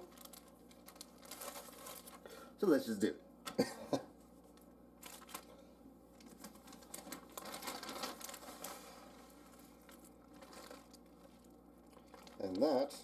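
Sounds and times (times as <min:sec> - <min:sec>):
plastic bag crinkling: 0:00.0 - 0:02.4, 0:04.5 - 0:13.0.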